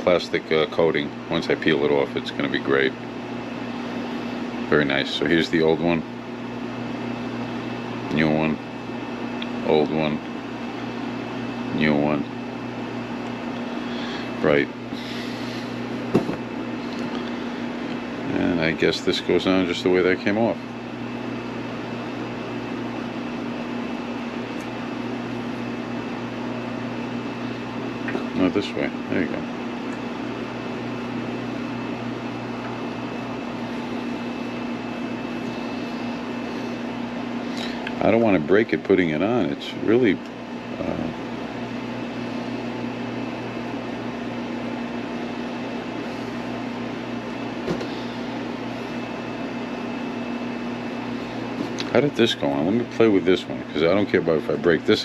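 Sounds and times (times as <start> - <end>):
low hum with hiss: 0.0 - 55.0.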